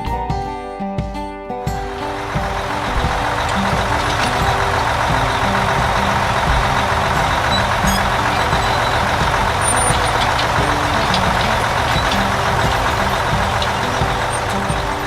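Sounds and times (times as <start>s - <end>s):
heavy truck engine rumbling: 1.8s - 15.0s.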